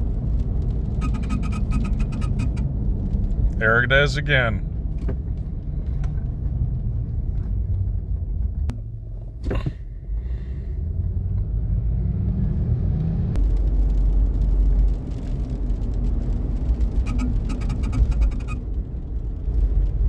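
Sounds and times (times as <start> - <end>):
road and drivetrain rumble: 0.0 - 20.0.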